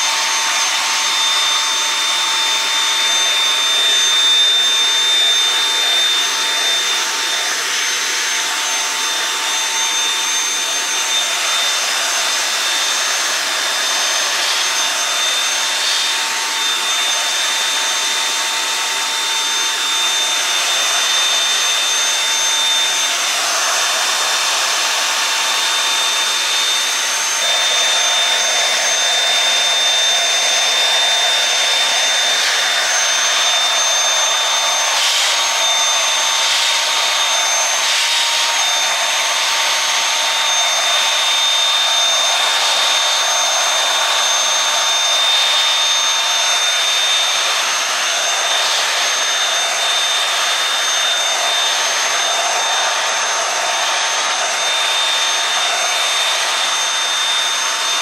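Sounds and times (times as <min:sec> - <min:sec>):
vacuum cleaner whine and air rush: 0:00.0 - 0:58.0.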